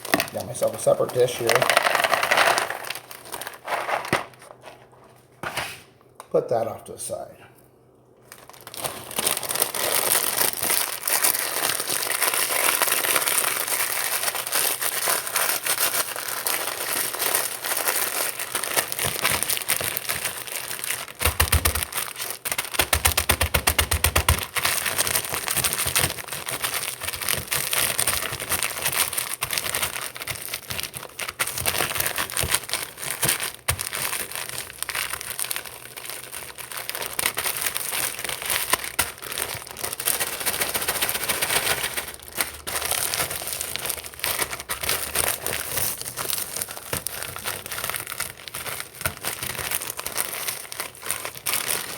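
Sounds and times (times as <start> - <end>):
snacks crinkling and crackling: 0.0 - 5.4, 8.0 - 51.9.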